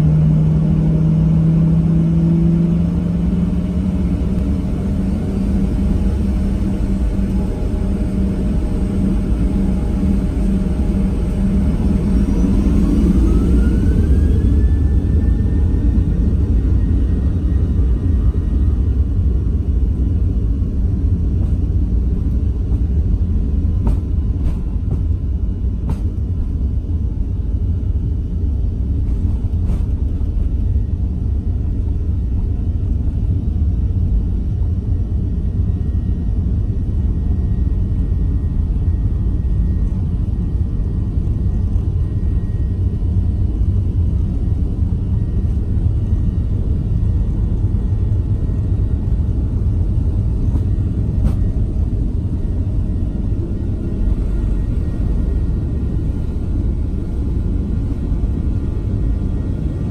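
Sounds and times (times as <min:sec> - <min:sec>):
jet engines deep rumble: 0:00.0 - 0:59.9.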